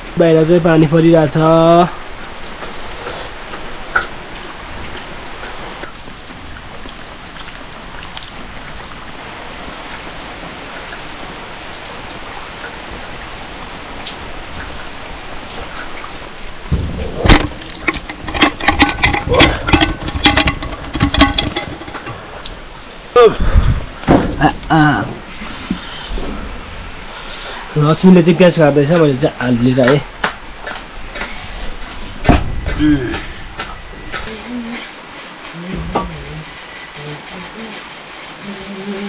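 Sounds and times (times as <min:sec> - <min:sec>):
rain on roofs: 0:00.0 - 0:39.0.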